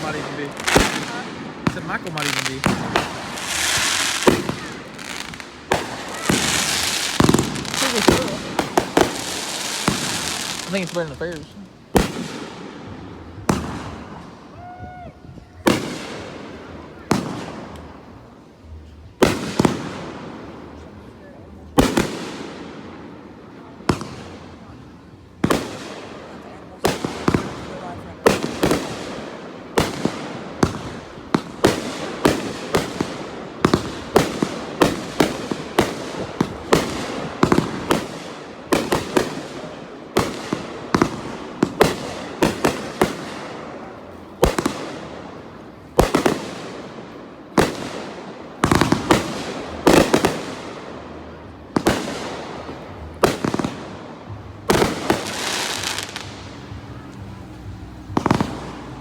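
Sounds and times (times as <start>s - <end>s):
firework crackling tail: 0.0s - 59.0s.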